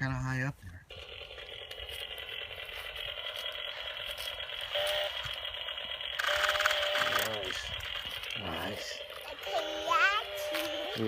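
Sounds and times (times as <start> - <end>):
toy chainsaw electronic buzzing: 0.9 - 11.0.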